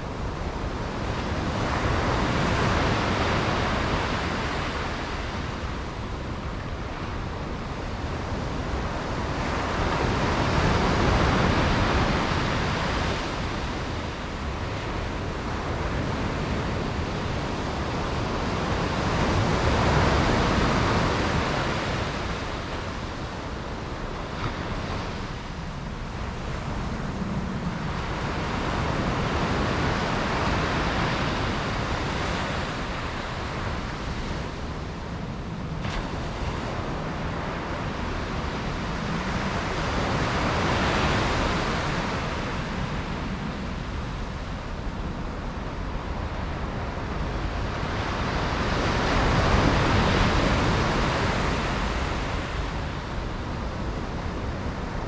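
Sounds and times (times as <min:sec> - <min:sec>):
low rumble of sea: 0:00.0 - 0:55.0
waves breaking: 0:00.1 - 0:55.0.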